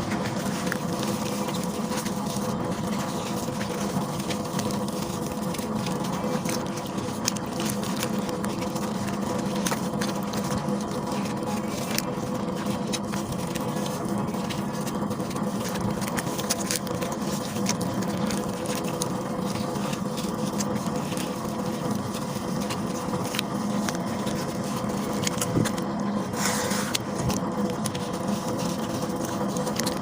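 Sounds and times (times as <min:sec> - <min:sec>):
paste crackling and crumbling: 0:00.0 - 0:30.0
steady low hum: 0:00.0 - 0:30.0.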